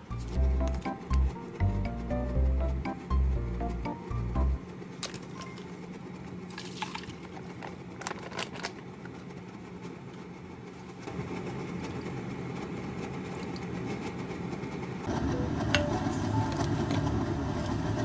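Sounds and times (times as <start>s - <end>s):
cooktop low hum with hiss: 0.0s - 18.0s.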